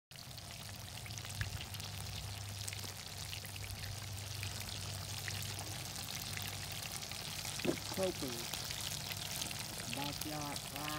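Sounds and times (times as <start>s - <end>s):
oil sizzling in a skillet: 0.1s - 10.9s.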